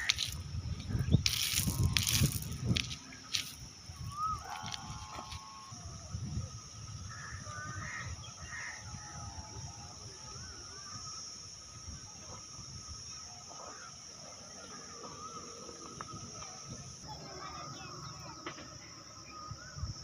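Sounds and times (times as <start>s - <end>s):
birds calling: 0.0s - 5.8s, 6.8s - 20.0s
insects droning: 0.0s - 20.0s.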